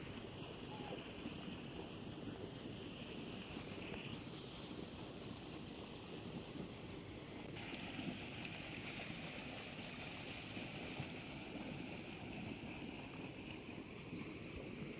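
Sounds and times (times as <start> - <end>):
insect chorus hiss: 0.0 - 14.9.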